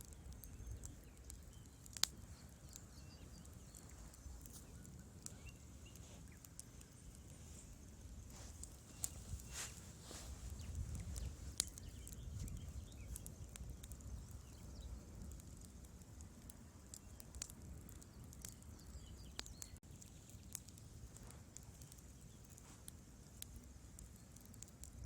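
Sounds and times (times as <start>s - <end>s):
low rumble of burning logs: 0.0s - 25.0s
wood fire crackling: 0.0s - 25.0s.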